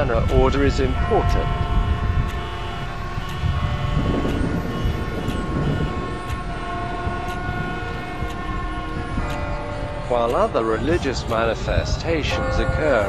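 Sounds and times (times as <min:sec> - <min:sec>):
droning held chord: 0:00.0 - 0:13.0
low rumble of street traffic: 0:00.0 - 0:13.0.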